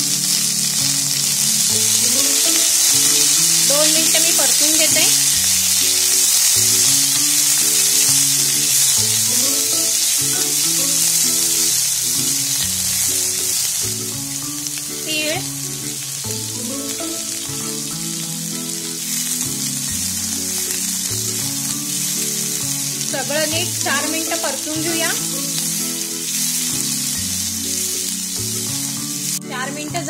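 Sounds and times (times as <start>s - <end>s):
background music: 0.0s - 30.0s
vegetables sizzling in hot oil: 0.0s - 30.0s.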